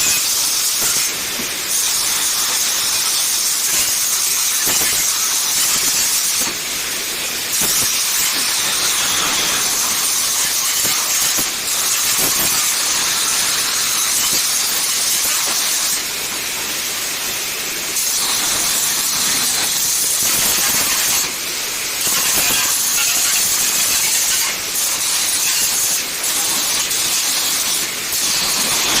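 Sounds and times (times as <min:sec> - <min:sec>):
angle grinder grinding metal: 0:00.0 - 0:29.0.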